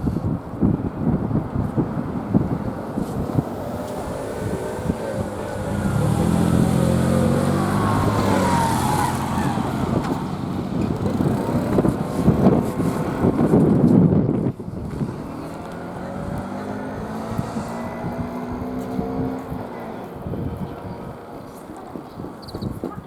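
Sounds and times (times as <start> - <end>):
diesel train engine hum: 0.0 - 22.4
wind buffeting microphone: 0.0 - 23.0.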